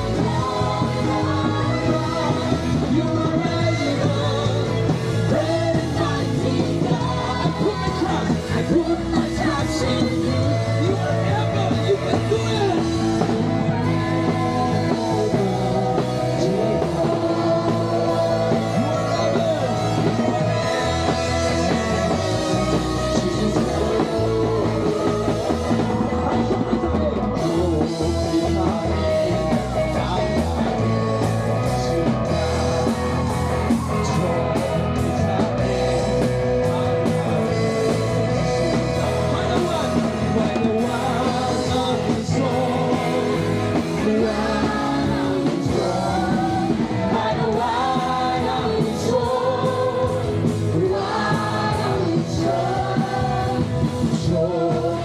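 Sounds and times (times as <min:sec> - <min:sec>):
women singing lead: 0:00.0 - 0:11.3, 0:12.3 - 0:26.7, 0:31.9 - 0:55.0
bass guitar: 0:00.0 - 0:55.0
drums: 0:00.0 - 0:55.0
electric guitars: 0:00.0 - 0:55.0
keyboard: 0:00.0 - 0:55.0.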